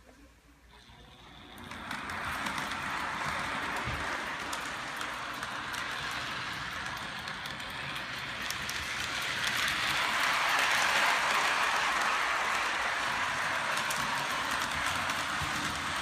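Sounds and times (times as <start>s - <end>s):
model train wheels rolling on rails: 0.0s - 16.0s.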